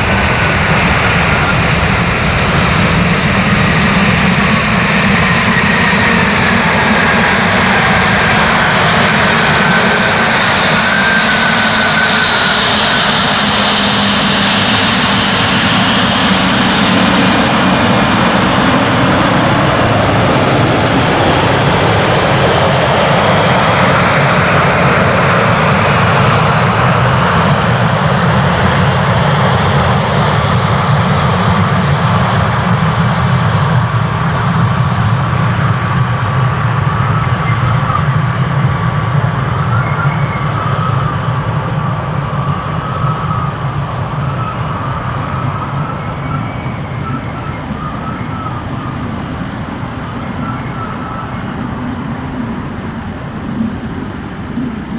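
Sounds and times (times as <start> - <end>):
jet engines running loud: 0.0 - 54.9.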